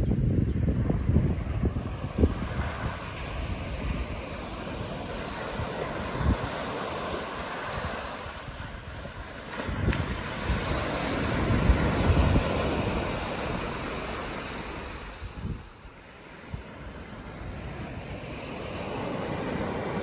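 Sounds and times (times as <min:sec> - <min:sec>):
wind buffeting microphone: 0:00.0 - 0:20.0
surf breaking on beach: 0:00.2 - 0:20.0.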